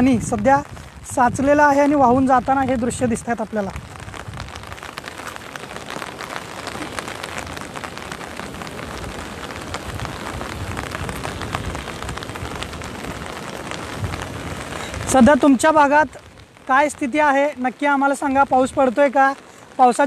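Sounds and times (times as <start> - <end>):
heavy rain pouring: 0.0 - 20.0
rain drops tapping: 0.0 - 20.0.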